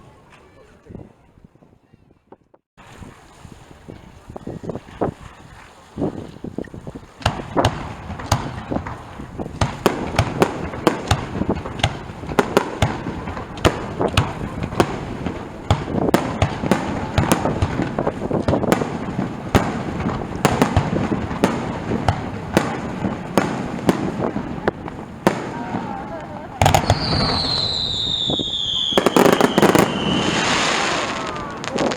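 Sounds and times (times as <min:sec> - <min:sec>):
fireworks bangs and crackles: 0:06.0 - 0:31.9.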